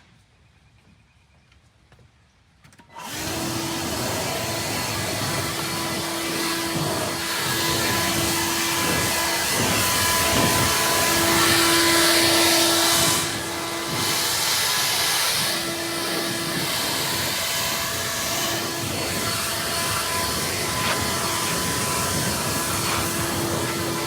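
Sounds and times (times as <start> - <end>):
leaf blower running: 2.9 - 24.0.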